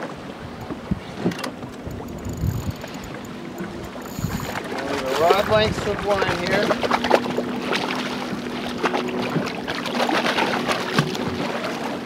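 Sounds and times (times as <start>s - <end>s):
fish thrashing and splashing: 1.5s - 12.0s.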